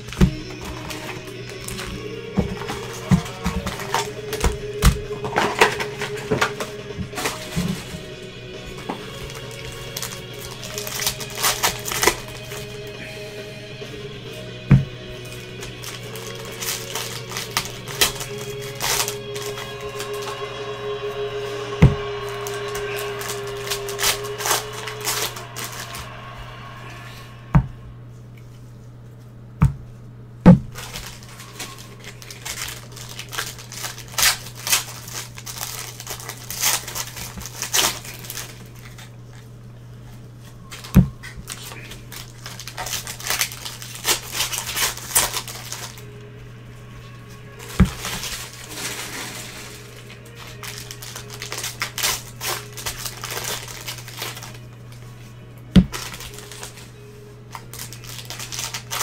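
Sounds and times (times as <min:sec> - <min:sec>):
cards rustling and shuffling: 0:00.0 - 0:13.3, 0:14.7 - 0:26.3, 0:30.7 - 0:46.2, 0:47.2 - 0:59.0
foil wrappers crinkling and tearing: 0:00.0 - 0:27.1, 0:30.5 - 0:59.0.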